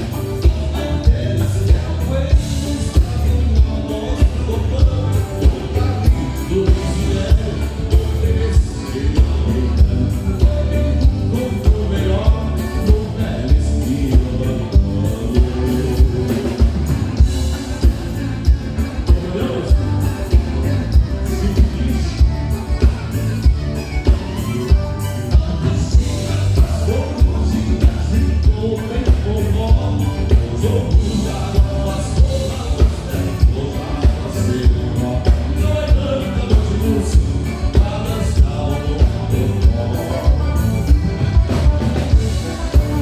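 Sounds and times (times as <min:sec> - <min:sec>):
live band playing dance music: 0:00.0 - 0:43.0.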